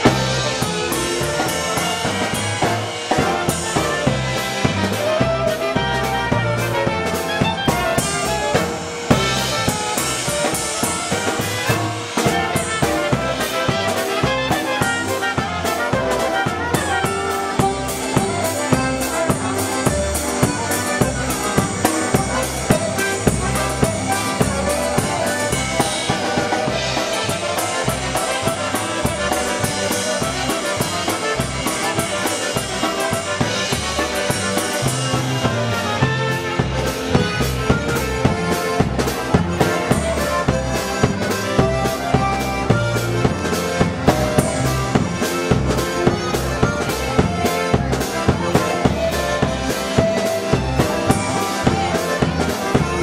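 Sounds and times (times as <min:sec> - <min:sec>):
drum kit beat: 0:00.0 - 0:53.0
electric bass guitar: 0:00.0 - 0:53.0
polka band playing: 0:00.0 - 0:53.0.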